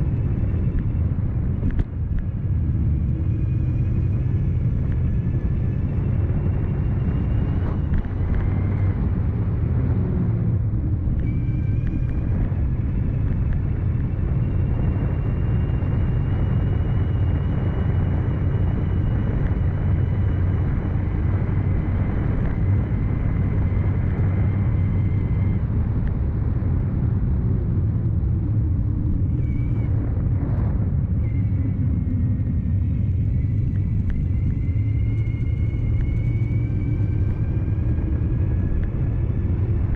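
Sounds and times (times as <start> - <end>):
electric bike motor whine: 0.0 - 26.4, 28.2 - 39.9
low rumble of riding: 0.0 - 39.9.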